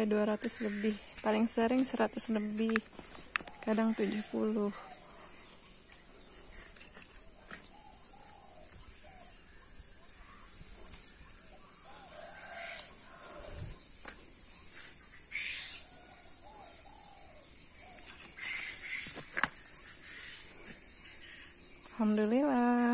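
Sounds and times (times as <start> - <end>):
faint bird calls: 0.0 - 22.9
high-pitched insect drone: 0.0 - 22.9.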